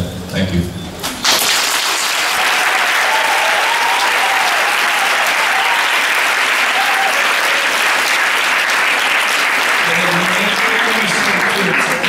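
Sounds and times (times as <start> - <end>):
large audience applauding: 1.2 - 12.0.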